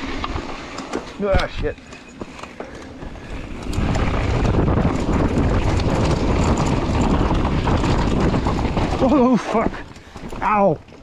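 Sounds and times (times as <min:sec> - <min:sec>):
bike rattling over stones: 0:00.0 - 0:11.0
bike tyres on rocky trail: 0:00.0 - 0:11.0
wind buffeting microphone: 0:01.3 - 0:11.0.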